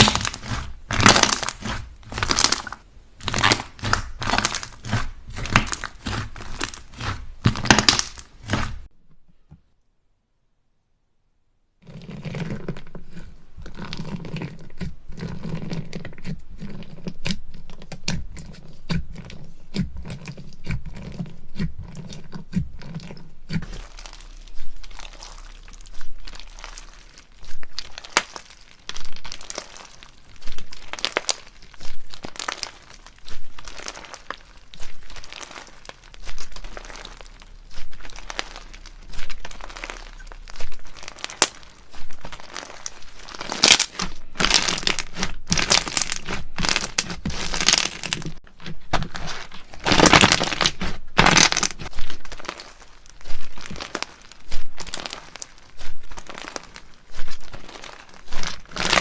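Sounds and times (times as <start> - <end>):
slime crackling as kneaded: 0.0 - 8.9, 11.8 - 59.0.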